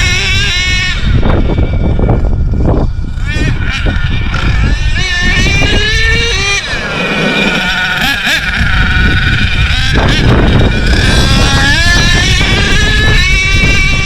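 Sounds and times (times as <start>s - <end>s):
rc truck engine revving: 0.0s - 14.0s.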